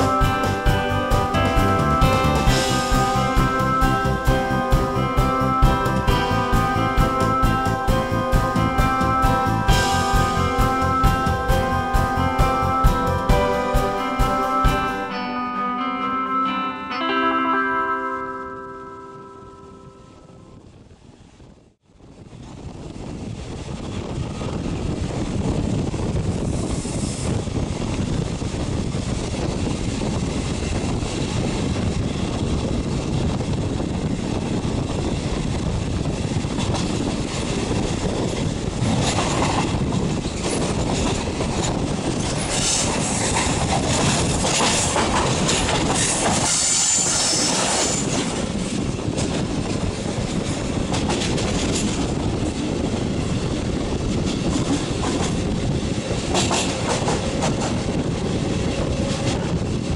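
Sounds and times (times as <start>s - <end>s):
train wheels rumbling on rails: 0.0s - 15.1s, 20.6s - 59.9s.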